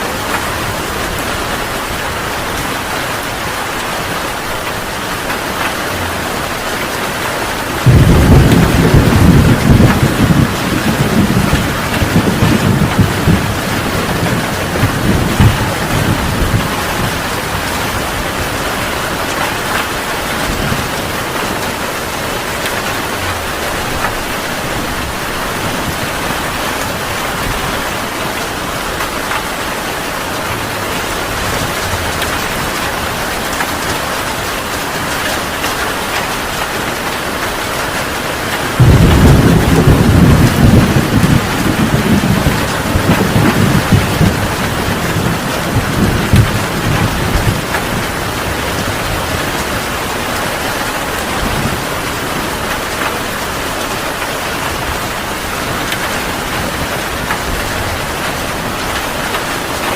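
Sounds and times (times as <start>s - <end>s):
heavy rain falling: 0.0s - 59.9s
thunder rumbling: 0.1s - 35.2s, 38.5s - 59.9s.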